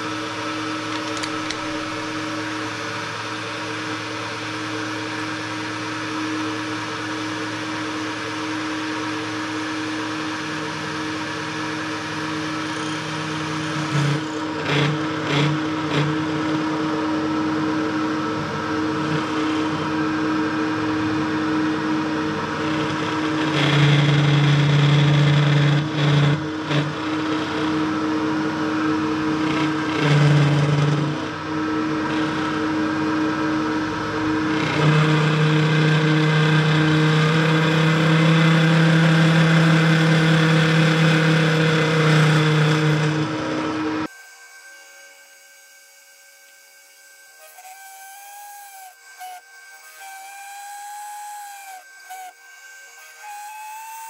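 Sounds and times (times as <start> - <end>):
end mill cutting aluminium: 0.0 - 54.0
milling machine motor hum: 0.0 - 54.0.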